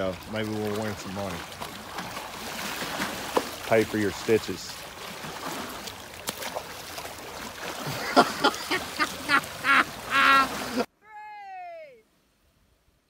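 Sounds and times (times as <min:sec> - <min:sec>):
water sloshing against rocks: 0:00.0 - 0:10.9.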